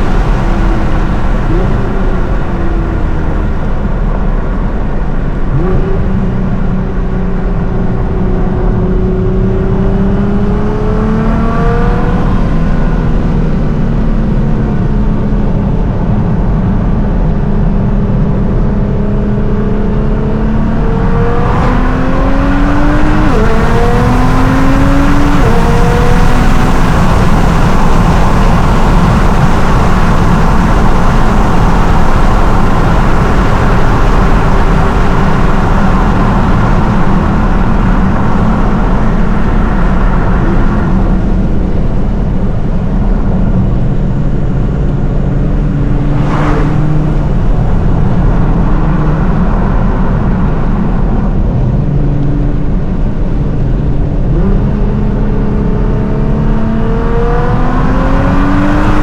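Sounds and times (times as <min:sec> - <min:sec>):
car engine and exhaust: 0:00.0 - 0:59.0.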